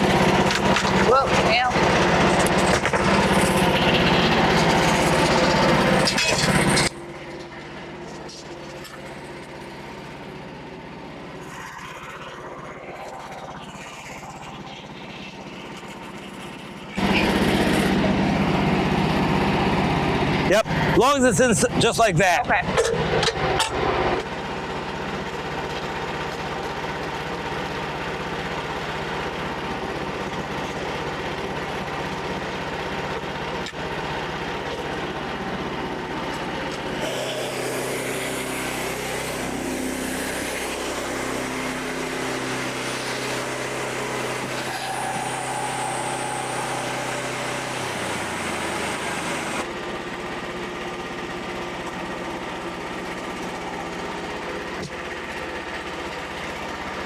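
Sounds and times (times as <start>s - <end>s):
bandsaw mill engine running: 0.0s - 57.0s.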